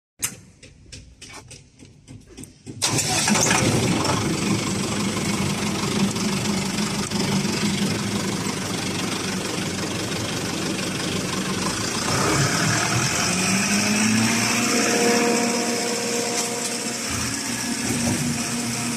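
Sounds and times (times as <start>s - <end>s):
engine starting and running: 0.2s - 18.9s.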